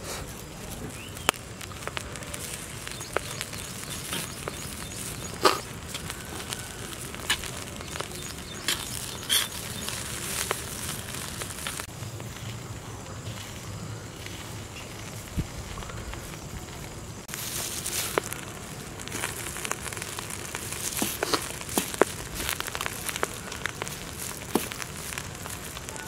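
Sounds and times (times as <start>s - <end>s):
food sizzling: 0.4s - 26.0s.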